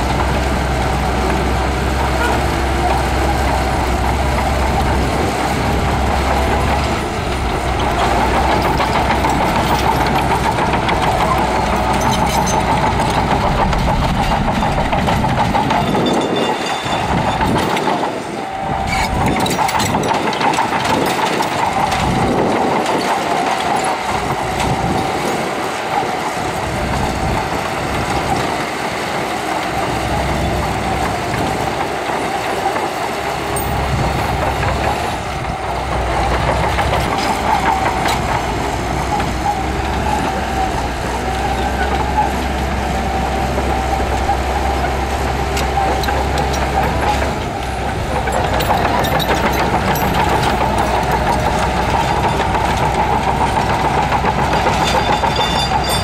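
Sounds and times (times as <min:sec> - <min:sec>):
bulldozer diesel engine under load: 0:00.0 - 0:56.0
metallic clatter of steel tracks: 0:00.0 - 0:56.0.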